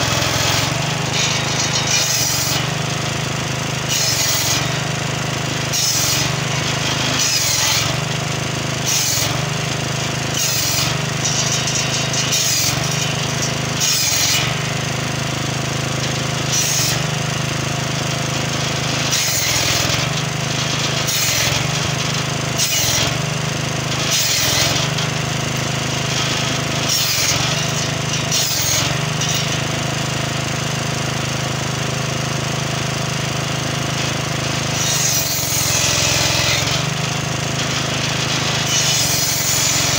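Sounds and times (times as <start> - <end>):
saw blade biting wood: 0.0 - 30.2, 33.5 - 39.9
small engine humming: 0.0 - 39.9.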